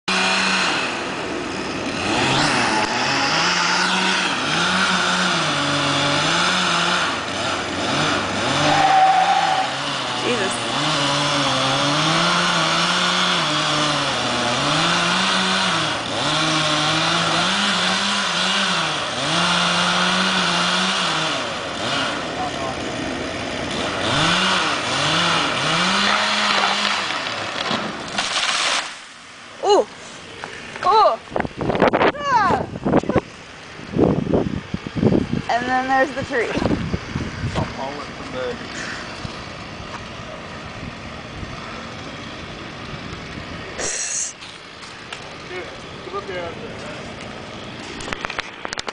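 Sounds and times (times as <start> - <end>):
chainsaw engine running: 0.0 - 8.7, 9.6 - 28.9, 32.8 - 48.9.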